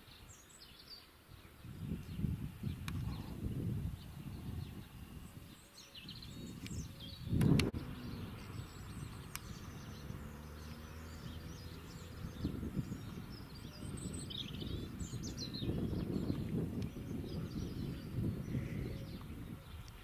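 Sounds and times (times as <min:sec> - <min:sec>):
small birds chirping: 0:00.0 - 0:20.0
low wind rumble: 0:01.3 - 0:20.0
distant train drone: 0:01.4 - 0:20.0.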